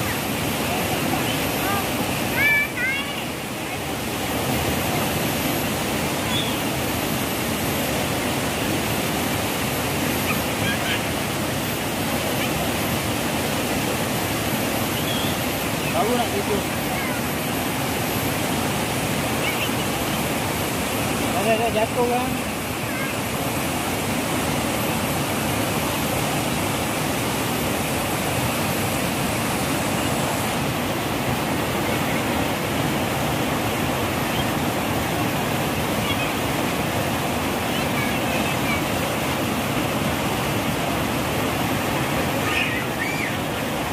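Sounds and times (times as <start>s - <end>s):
river rushing over boulders: 0.0s - 43.9s.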